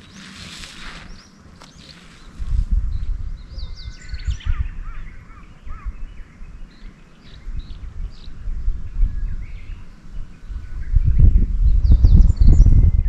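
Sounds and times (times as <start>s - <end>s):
birds chirping and calling: 0.0s - 13.0s
wind rumble on microphone: 0.0s - 13.0s.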